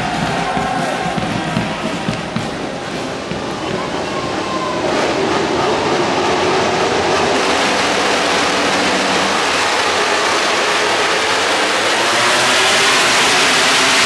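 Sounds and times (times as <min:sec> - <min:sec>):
racing motorcycles revving: 0:00.0 - 0:14.0.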